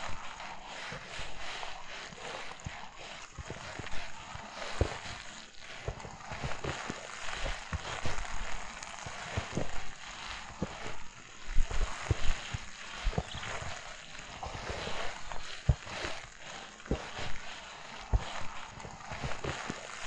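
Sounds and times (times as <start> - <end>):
footsteps crunching in snow: 0.0 - 20.0.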